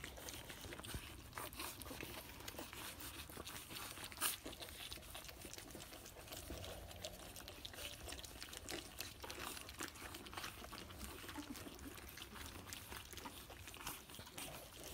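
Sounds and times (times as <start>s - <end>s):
puppies lapping and slurping: 0.0s - 14.9s.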